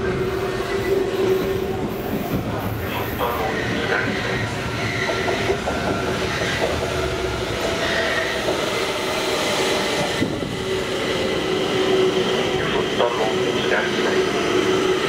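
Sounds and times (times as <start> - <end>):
metro train running: 0.0 - 15.0.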